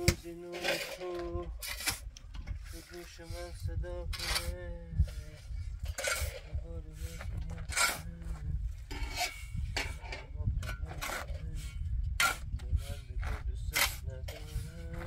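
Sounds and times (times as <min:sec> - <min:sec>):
shovel scraping mortar mix: 0:00.0 - 0:08.2, 0:08.9 - 0:15.0.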